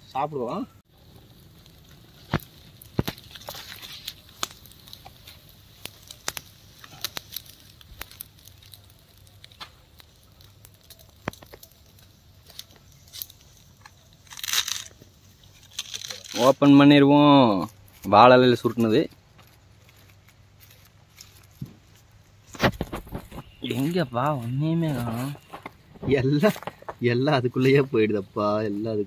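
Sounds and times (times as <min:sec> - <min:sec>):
wood fire crackling and popping: 0:00.4 - 0:29.0.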